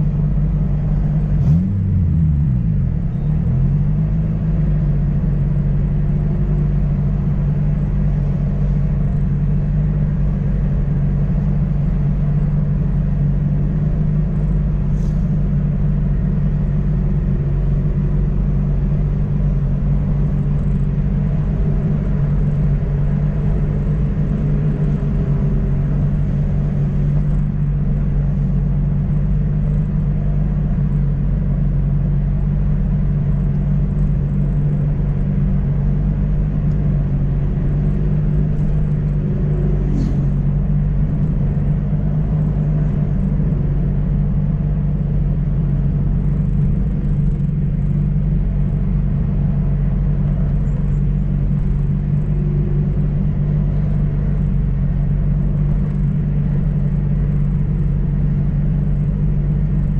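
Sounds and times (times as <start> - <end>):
car engine droning: 0.0 - 59.9
tyre and road noise: 0.0 - 59.9.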